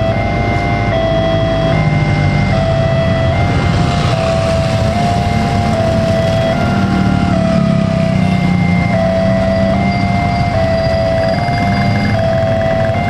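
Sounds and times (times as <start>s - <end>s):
idling engines: 0.0s - 13.0s
two-tone crossing alarm chime: 0.0s - 13.0s.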